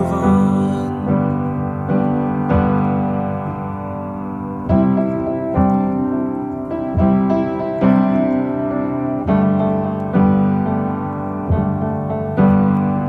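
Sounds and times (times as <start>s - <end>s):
piano playing sustained chords: 0.0s - 13.0s.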